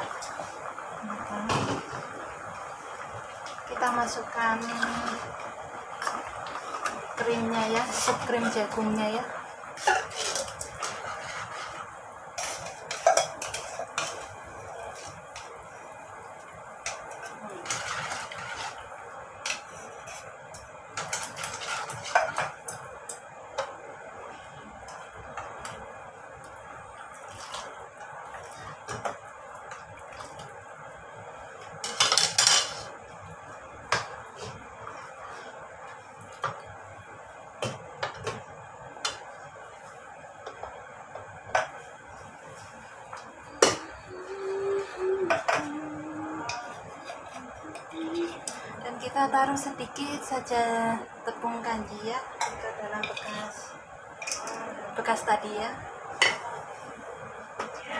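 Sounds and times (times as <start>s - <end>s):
faint steady hiss: 0.0s - 57.9s.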